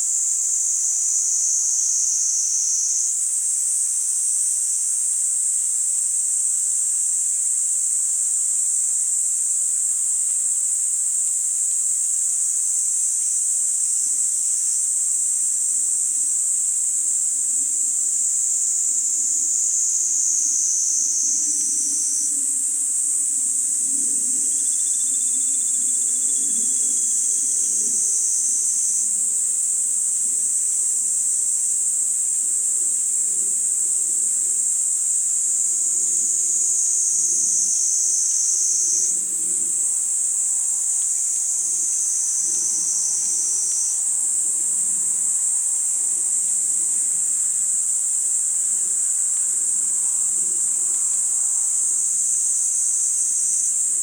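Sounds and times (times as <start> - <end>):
cicadas buzzing: 0.0 - 54.0
faint thin steady tone: 0.0 - 54.0.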